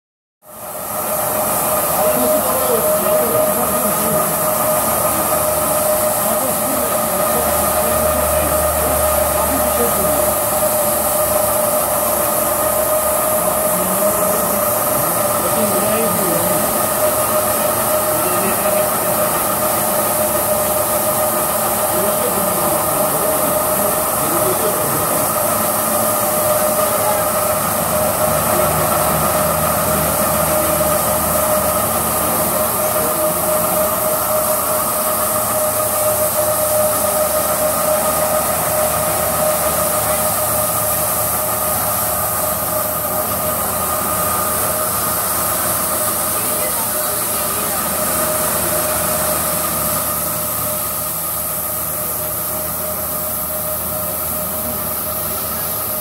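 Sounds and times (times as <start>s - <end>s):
carpet washing machine running: 0.4s - 56.0s.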